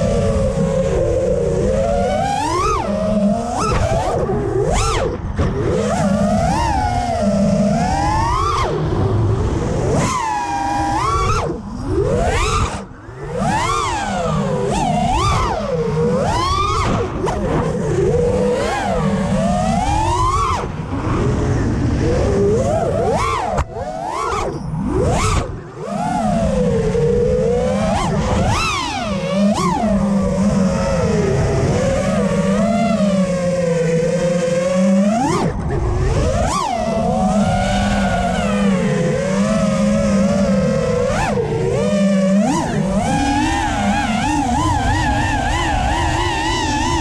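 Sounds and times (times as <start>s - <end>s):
quadcopter motors whining: 0.0s - 47.0s
wind and prop wash rush: 0.0s - 47.0s.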